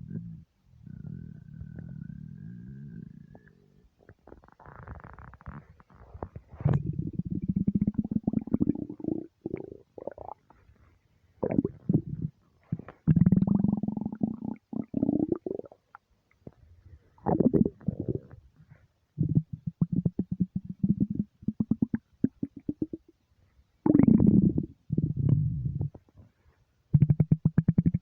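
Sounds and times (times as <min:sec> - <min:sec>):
stomach rumbling: 0:00.0 - 0:23.1, 0:23.9 - 0:26.4.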